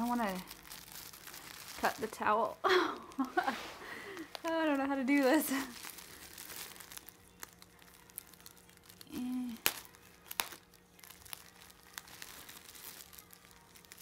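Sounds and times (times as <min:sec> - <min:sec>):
bubble wrap and tape crinkling: 0:00.0 - 0:14.0.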